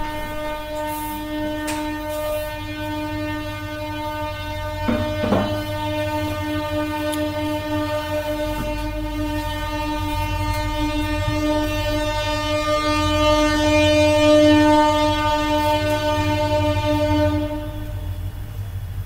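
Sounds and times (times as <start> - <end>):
car horn steady tone: 0.0 - 18.9.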